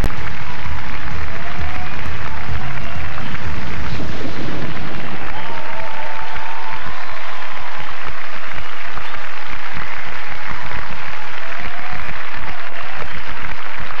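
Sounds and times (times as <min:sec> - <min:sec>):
audience applauding and cheering: 0:00.0 - 0:14.0.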